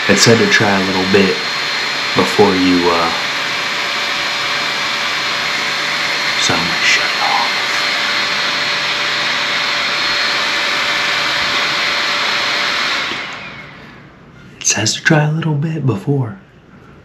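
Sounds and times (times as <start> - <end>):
electric fan whooshing: 0.0 - 15.3.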